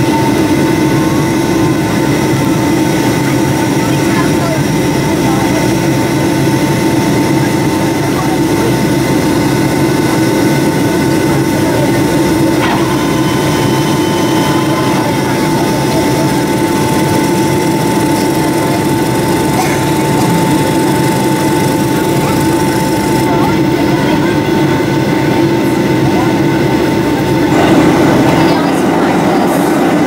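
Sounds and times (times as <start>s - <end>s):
jet engine roar in cabin: 0.0s - 30.0s
steady high whine: 0.0s - 30.0s.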